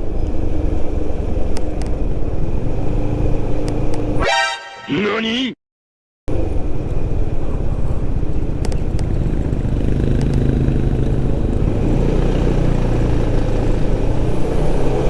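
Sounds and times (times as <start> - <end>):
road noise: 0.0 - 5.6, 6.3 - 15.0.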